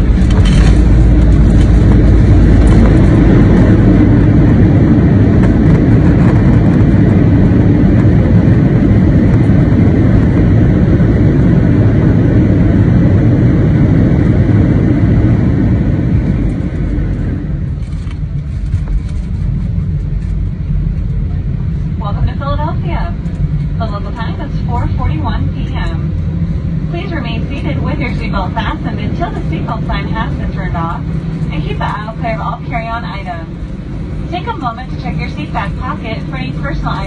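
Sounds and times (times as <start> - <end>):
aircraft engines rumbling: 0.0 - 37.0.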